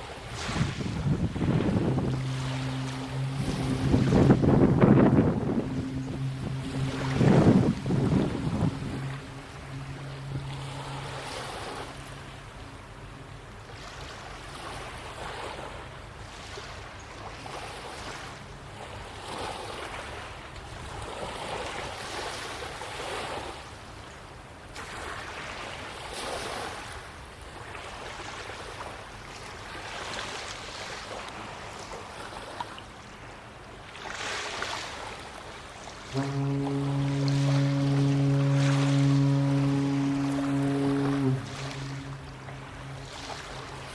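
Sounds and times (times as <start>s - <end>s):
waves washing against shore: 0.0s - 23.7s, 27.6s - 43.9s.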